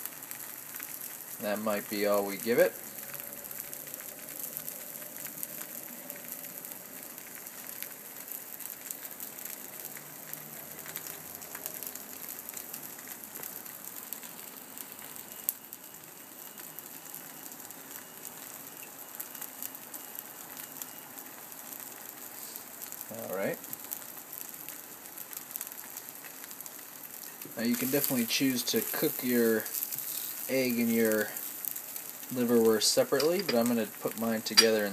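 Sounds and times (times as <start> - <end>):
meat sizzling in frying pan: 0.0 - 34.9.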